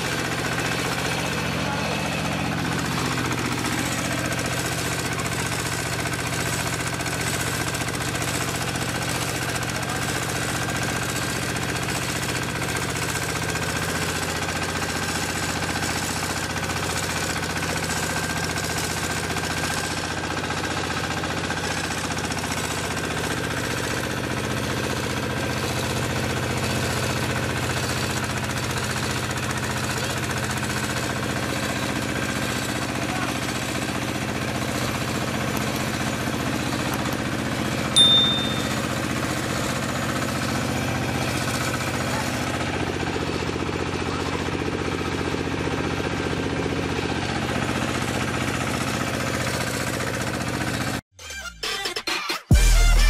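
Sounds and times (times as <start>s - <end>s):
rice mill drone: 0.0s - 51.0s.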